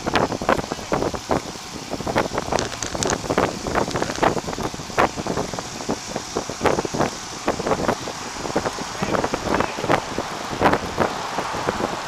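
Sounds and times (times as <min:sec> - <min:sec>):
bike knocks and rattles: 0:00.0 - 0:11.8
wind buffeting microphone: 0:00.0 - 0:12.0.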